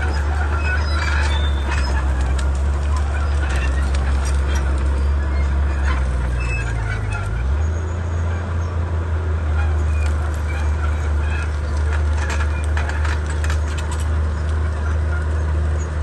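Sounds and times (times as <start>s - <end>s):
short high squeaks: 0.0s - 8.5s, 9.6s - 16.0s
bulldozer diesel engine running: 0.0s - 16.0s.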